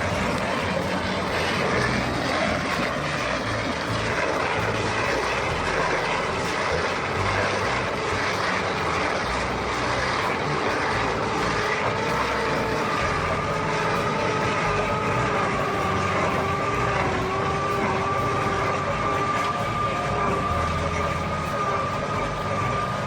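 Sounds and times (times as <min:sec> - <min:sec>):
dense rushing noise: 0:00.0 - 0:23.0
heavy machinery engine running: 0:00.0 - 0:23.0.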